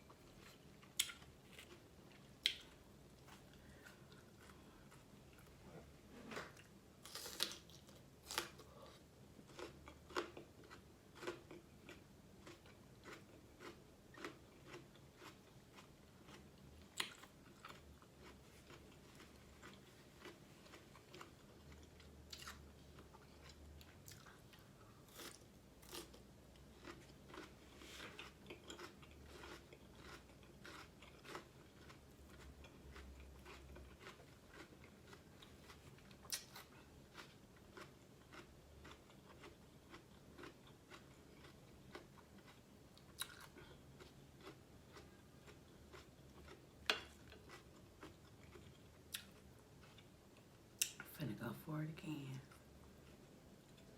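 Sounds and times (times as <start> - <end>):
person biting and chewing food: 6.2 - 50.1.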